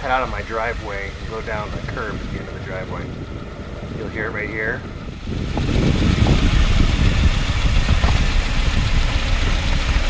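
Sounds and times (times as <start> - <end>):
car engine: 0.0 - 10.0
road rumble: 0.0 - 10.0.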